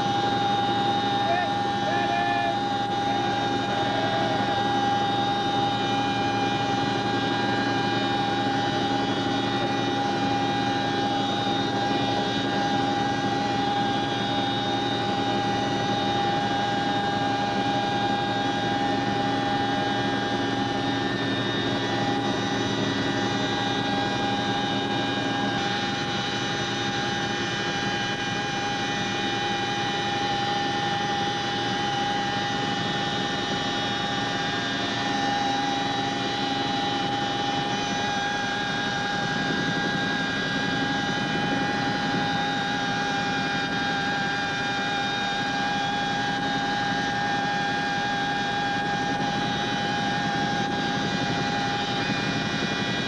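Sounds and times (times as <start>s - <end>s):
helicopter engines and rotors droning: 0.0s - 53.0s
high constant whine: 0.0s - 53.0s.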